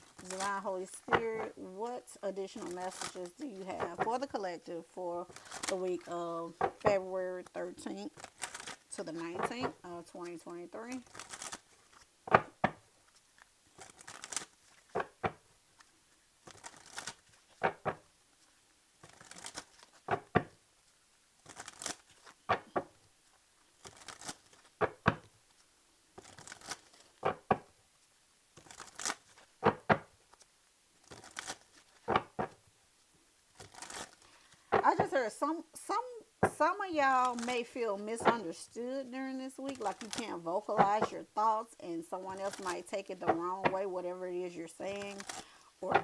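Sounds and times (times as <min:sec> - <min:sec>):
cards being shuffled: 0:00.0 - 0:01.6, 0:02.6 - 0:04.3, 0:05.3 - 0:27.8, 0:28.6 - 0:32.6, 0:33.5 - 0:35.2, 0:36.4 - 0:37.6, 0:38.2 - 0:38.5, 0:39.6 - 0:41.2, 0:42.3 - 0:43.8, 0:44.9 - 0:46.0.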